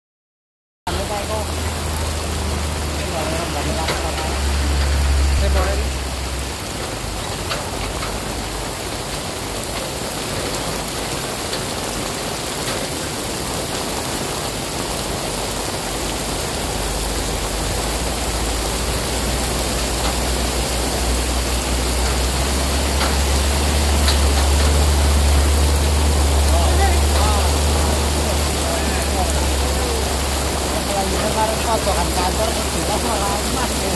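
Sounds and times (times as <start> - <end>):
rain falling on ground: 0.9 - 33.9.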